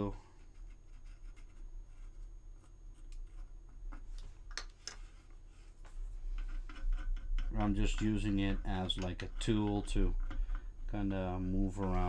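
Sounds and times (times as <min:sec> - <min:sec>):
low steady hum: 0:00.0 - 0:12.0
brush scratching and clicking: 0:00.4 - 0:12.0.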